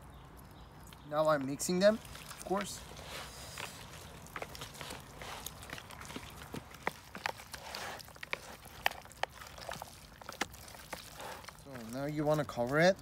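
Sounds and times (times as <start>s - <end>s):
hands mixing meat in marinade: 0.0s - 13.0s.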